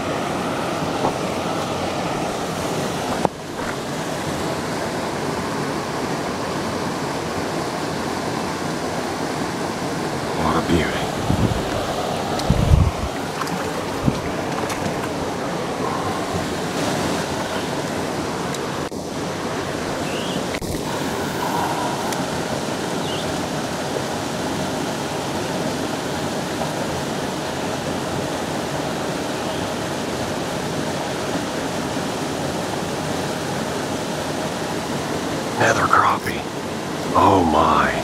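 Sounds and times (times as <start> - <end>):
water rushing through spillway: 0.0 - 37.8.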